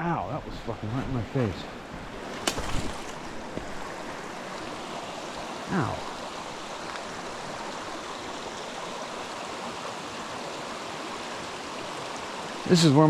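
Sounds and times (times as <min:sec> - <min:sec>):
stream flowing over rocks: 0:00.3 - 0:13.0.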